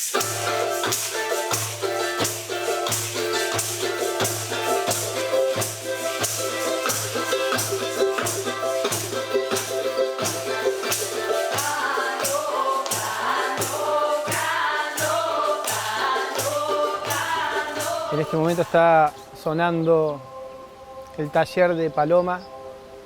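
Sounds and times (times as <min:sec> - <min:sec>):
shaker percussion: 0:00.0 - 0:19.6.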